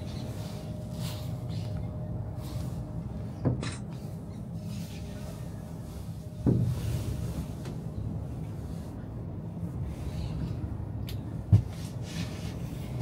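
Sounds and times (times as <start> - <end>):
cable car rumble: 0.0 - 13.0.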